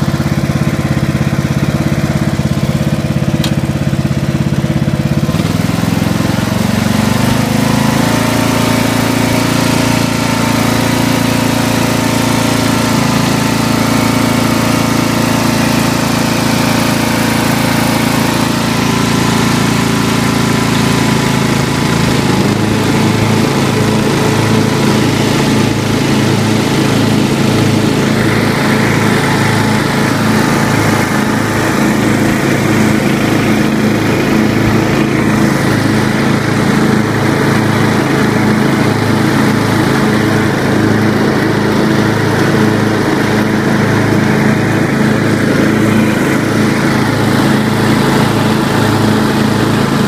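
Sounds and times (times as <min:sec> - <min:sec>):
lawn tractor engine running: 0:00.0 - 0:50.0.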